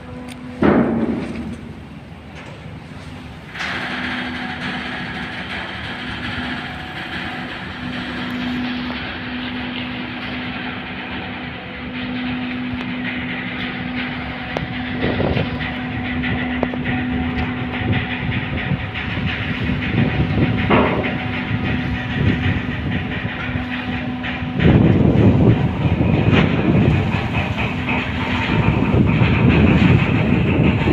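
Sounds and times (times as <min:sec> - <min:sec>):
low rumble: 0:00.0 - 0:30.9
ship machinery humming: 0:00.0 - 0:30.9.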